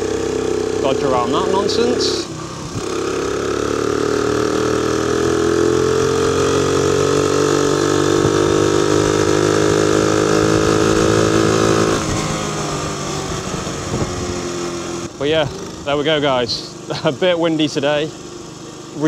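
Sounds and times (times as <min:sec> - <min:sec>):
moped engine running: 0:00.0 - 0:19.0.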